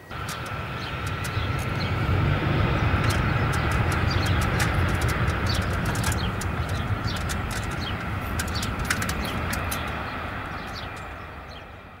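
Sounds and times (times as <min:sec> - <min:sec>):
constant high whine: 0:00.0 - 0:12.0
small birds chirping: 0:00.0 - 0:12.0
steady low rumble: 0:00.0 - 0:12.0.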